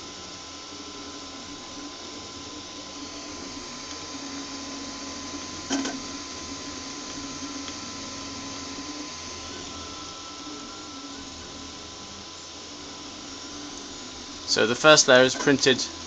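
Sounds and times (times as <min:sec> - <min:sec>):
stepper motors buzzing hum: 0:00.0 - 0:16.0.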